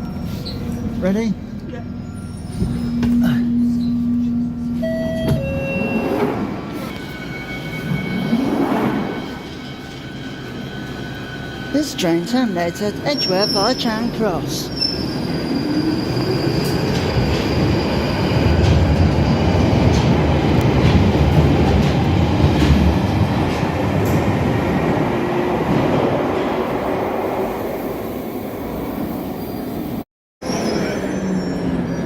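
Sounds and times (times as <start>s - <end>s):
train rumbling in tunnel: 0.0s - 32.0s.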